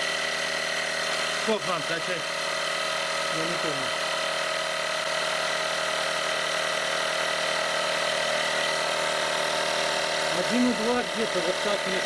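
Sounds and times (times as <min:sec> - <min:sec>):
electric air compressor humming: 0:00.0 - 0:12.0.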